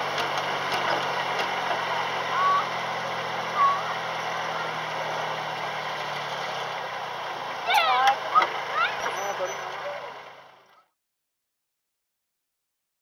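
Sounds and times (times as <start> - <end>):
locomotive engine hum: 0.0 - 10.9
wheels rattling on rail: 0.0 - 10.9.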